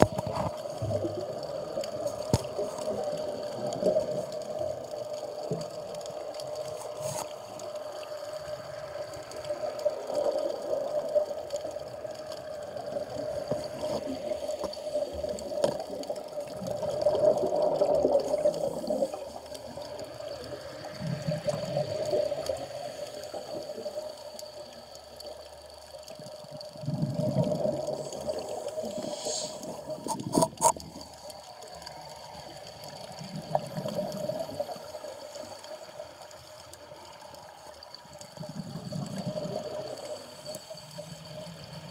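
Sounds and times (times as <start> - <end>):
exhaled bubbles underwater: 0.0 - 41.9.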